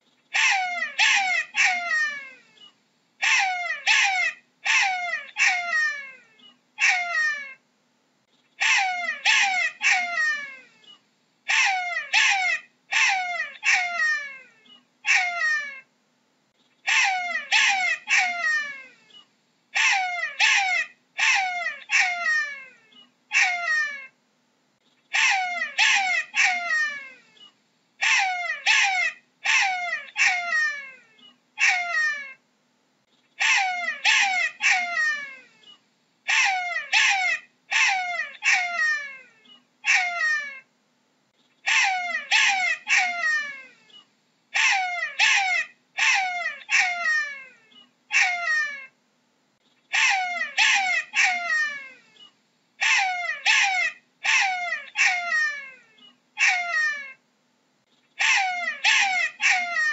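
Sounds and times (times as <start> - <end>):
jackal yelping: 0.3 - 7.6, 8.6 - 15.9, 16.8 - 24.2, 25.1 - 32.4, 33.4 - 40.7, 41.6 - 49.0, 49.9 - 57.2, 58.2 - 59.9.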